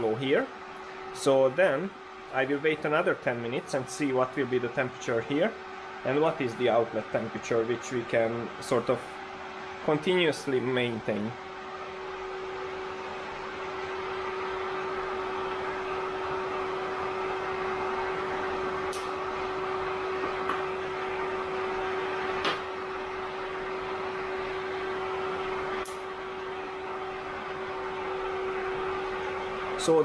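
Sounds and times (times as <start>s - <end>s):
cooling fans and pump whirring: 0.0s - 30.0s.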